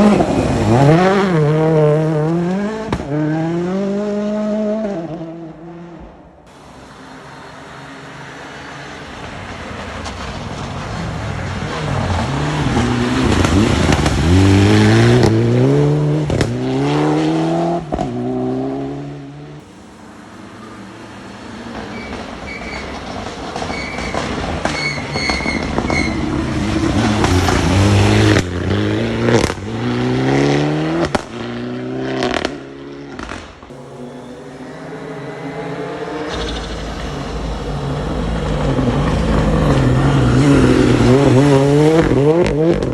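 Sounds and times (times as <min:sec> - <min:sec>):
rally car engines passing: 0:00.0 - 0:42.9.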